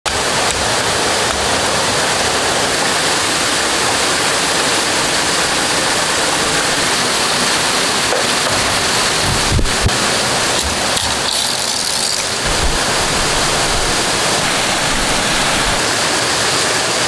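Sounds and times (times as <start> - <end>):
falling water rushing: 0.1 - 17.0.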